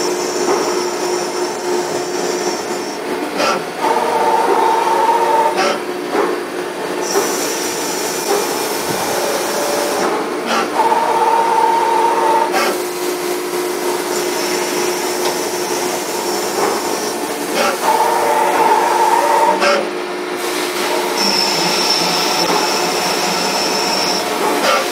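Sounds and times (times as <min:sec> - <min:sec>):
metal lathe whining: 0:00.0 - 0:05.8, 0:07.0 - 0:12.8, 0:13.9 - 0:24.9.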